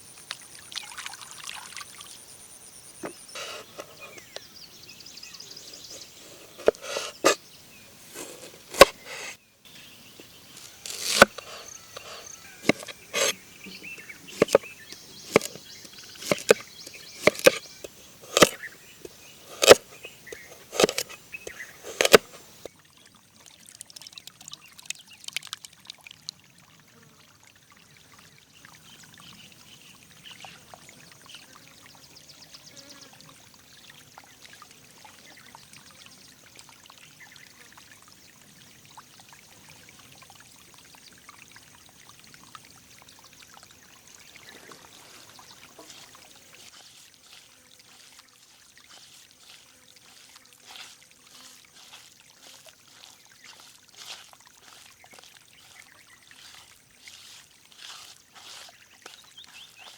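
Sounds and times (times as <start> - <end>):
trickle of running water: 0.0 - 59.9.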